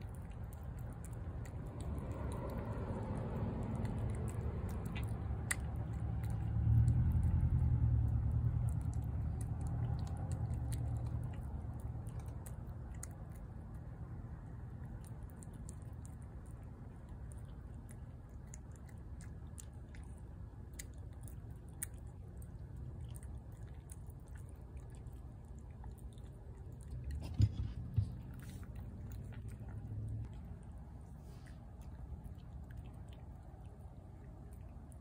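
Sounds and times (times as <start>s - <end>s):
cat chewing food: 0.0s - 35.0s.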